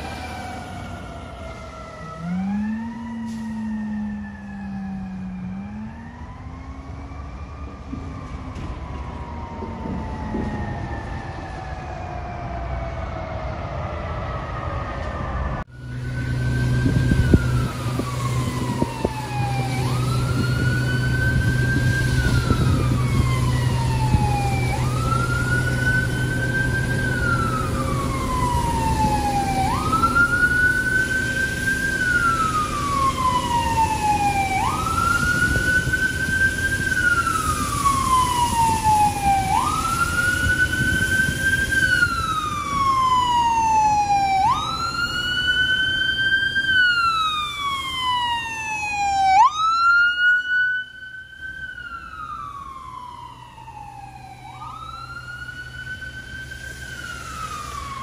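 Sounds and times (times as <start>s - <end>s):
ambulance siren wailing: 0.0s - 58.0s.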